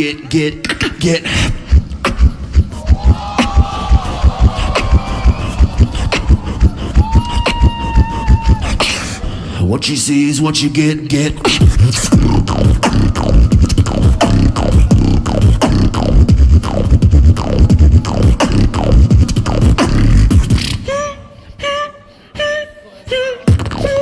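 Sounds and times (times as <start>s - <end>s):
beatboxing through a microphone: 0.0s - 24.0s.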